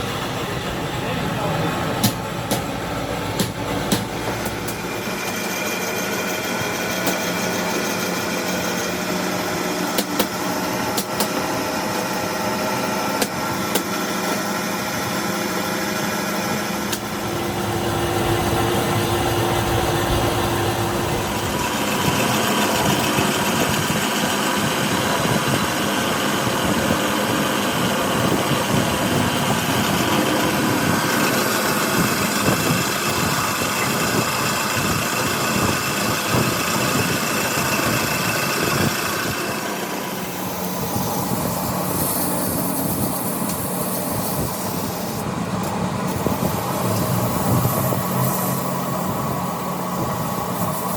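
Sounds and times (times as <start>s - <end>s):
metalworking machine running: 0.0s - 50.9s.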